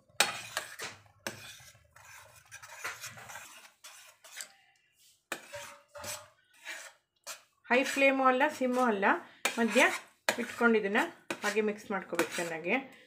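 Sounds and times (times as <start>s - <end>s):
metal spatula scraping pan: 0.0s - 12.8s.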